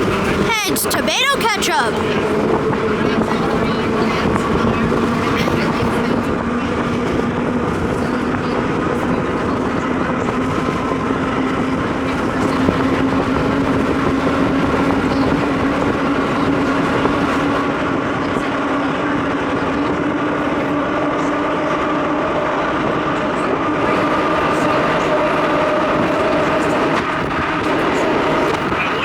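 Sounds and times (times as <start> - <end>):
subway wheels rumbling on rail: 2.0 - 29.0.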